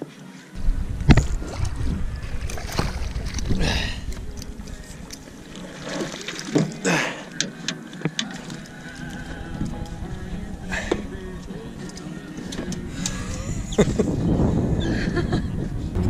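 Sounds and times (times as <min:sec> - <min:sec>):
water splashing and sloshing: 0:00.6 - 0:14.1.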